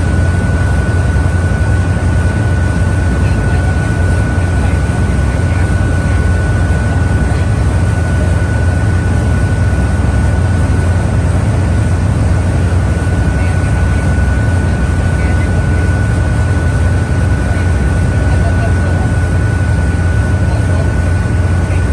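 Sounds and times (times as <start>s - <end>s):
boat engine drone: 0.0s - 21.9s.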